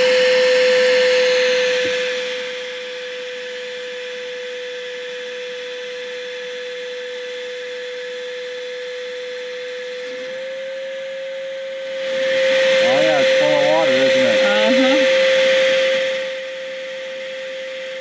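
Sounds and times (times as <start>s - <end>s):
vacuum cleaner whine: 0.0s - 18.0s.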